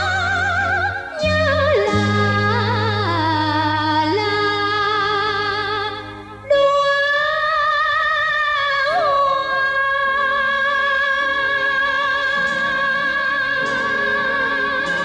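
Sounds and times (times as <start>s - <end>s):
person singing with vibrato: 0.0s - 15.0s
soft musical accompaniment: 0.0s - 15.0s.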